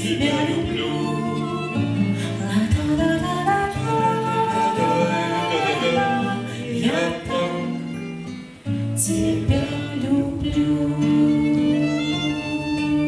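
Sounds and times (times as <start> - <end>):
acoustic guitar: 0.0 - 13.0
voices singing in harmony: 0.0 - 13.0.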